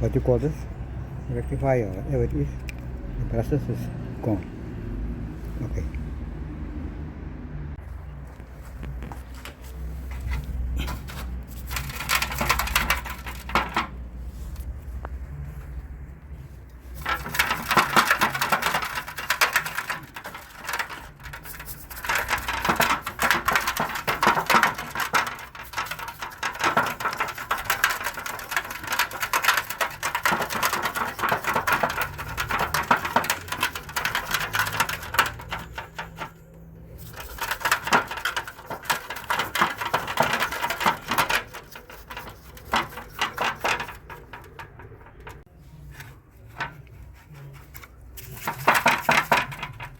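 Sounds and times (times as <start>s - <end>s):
brush scrubbing metal parts: 9.0s - 49.9s.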